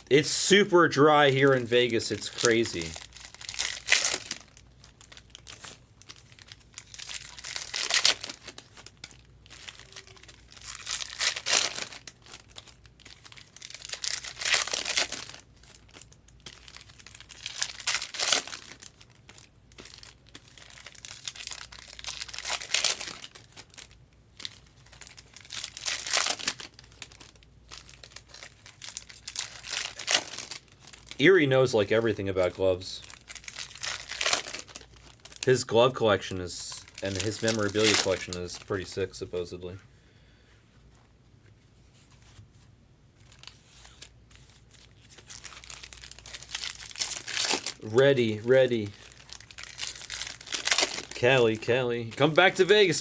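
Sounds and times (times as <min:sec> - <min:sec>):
wrappers tearing and crinkling: 0:00.0 - 0:39.6, 0:43.2 - 0:53.0
handling of cards: 0:00.0 - 0:39.8, 0:40.6 - 0:53.0.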